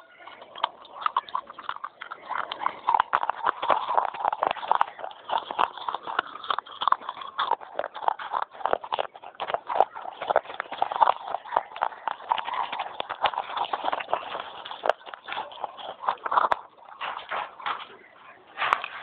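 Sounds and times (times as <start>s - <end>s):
crisp crunching while chewing: 0.0s - 19.0s.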